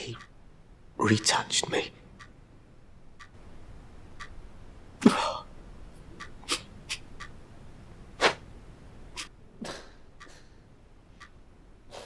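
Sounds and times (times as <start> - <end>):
clock ticking: 0.0 - 8.1, 9.2 - 11.6.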